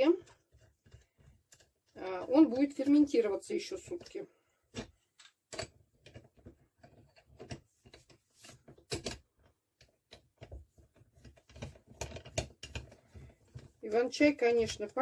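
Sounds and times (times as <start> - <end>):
metal clicks and knocks: 0.2 - 3.0, 3.9 - 13.8.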